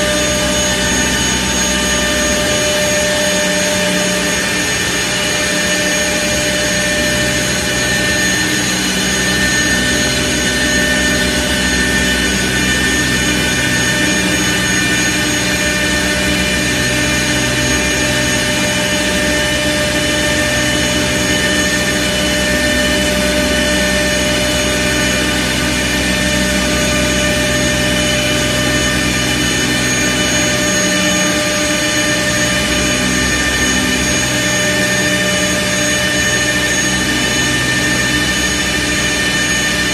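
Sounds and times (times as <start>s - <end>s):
lathe spindle whine: 0.0s - 39.9s.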